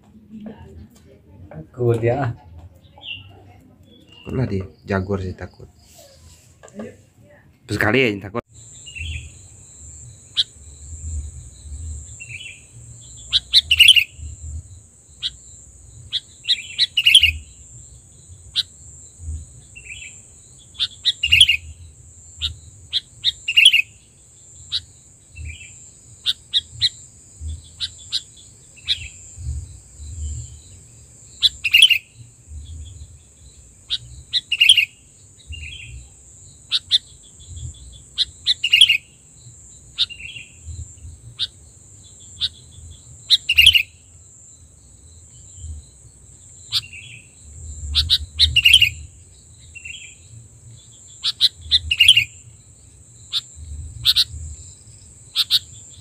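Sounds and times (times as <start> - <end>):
bird chirping calls: 1.8 - 7.0, 7.7 - 39.2, 39.8 - 44.0, 46.4 - 52.5, 53.2 - 56.0
high-pitched insect drone: 8.0 - 56.0.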